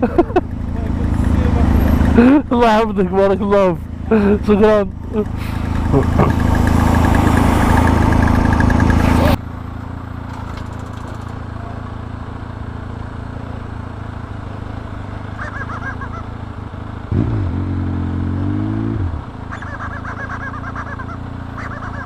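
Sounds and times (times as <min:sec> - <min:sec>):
motorcycle engine idling: 0:00.0 - 0:17.3, 0:19.1 - 0:22.0.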